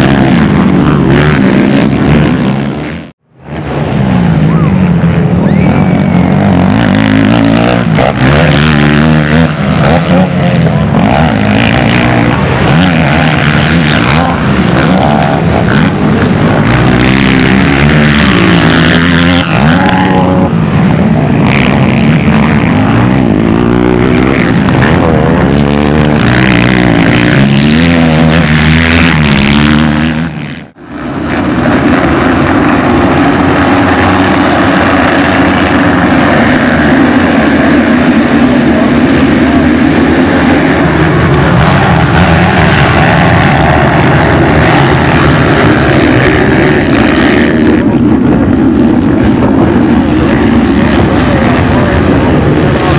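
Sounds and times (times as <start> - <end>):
quad engine revving: 0.0 - 52.9
quad engines droning together: 0.0 - 52.9.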